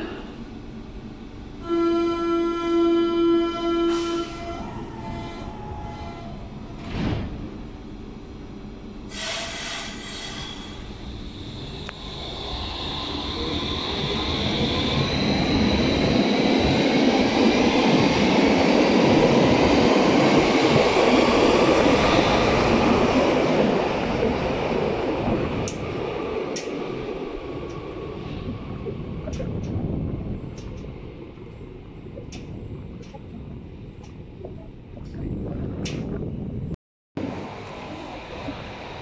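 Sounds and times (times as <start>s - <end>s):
electric train whine: 0.0s - 33.9s, 37.2s - 39.0s
train wheels rumbling on rails: 3.2s - 39.0s.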